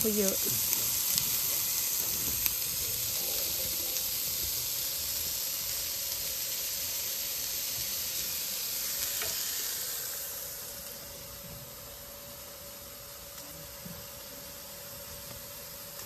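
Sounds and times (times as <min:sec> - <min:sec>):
sausage sizzling in a frying pan: 0:00.0 - 0:16.0.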